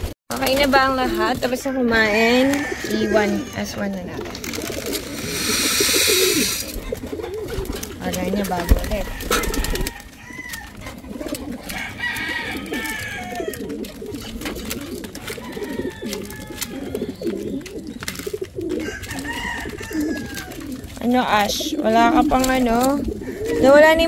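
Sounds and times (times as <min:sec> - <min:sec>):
pigeons cooing: 0:00.0 - 0:24.0
beaks pecking grain: 0:00.3 - 0:24.0.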